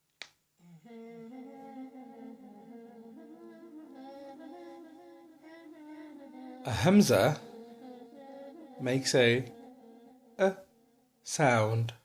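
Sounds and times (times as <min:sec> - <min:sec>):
person humming a melody: 0:00.6 - 0:11.0.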